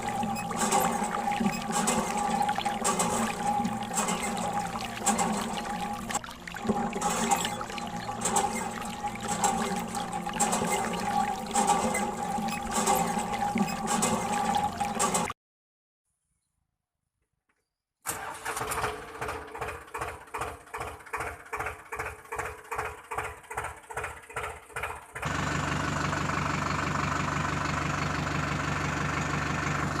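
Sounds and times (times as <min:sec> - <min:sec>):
engine starting and running: 0:00.0 - 0:15.4, 0:18.1 - 0:30.0.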